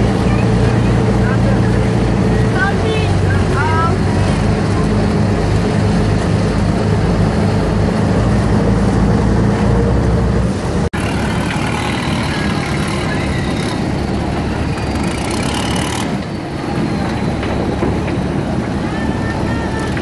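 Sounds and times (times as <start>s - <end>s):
boat engine deep hum: 0.0s - 20.0s
river water rushing: 0.0s - 20.0s
wind: 0.0s - 20.0s.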